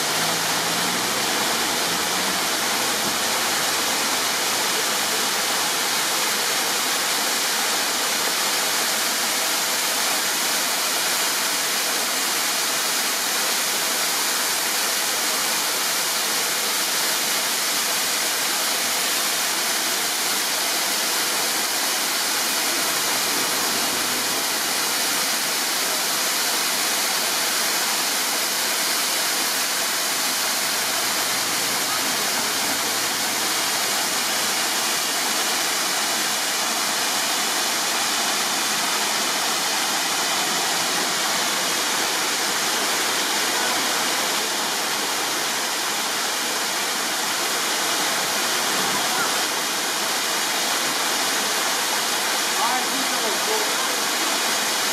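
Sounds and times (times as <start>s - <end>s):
waterfall rushing over rock: 0.0s - 54.9s.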